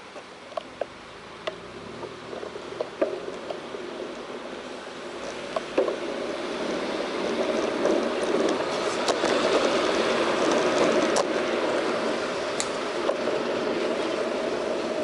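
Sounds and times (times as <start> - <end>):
bicycle wind and tyre noise: 0.0 - 15.0.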